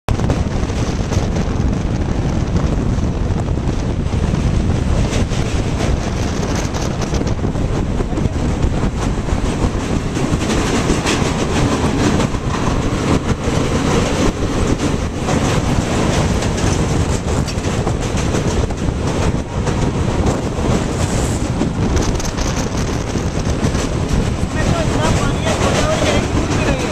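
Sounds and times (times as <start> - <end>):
train wheels rumbling on bridge: 0.1 - 26.9
rapid clatter: 4.3 - 26.9.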